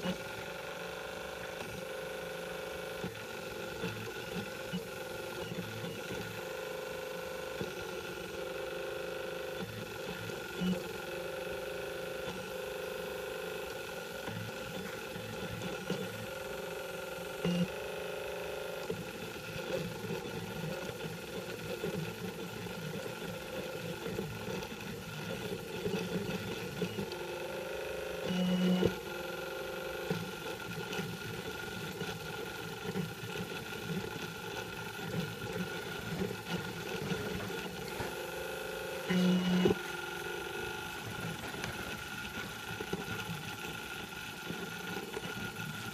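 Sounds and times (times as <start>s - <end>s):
printer stepper motors whining: 0.0s - 45.9s.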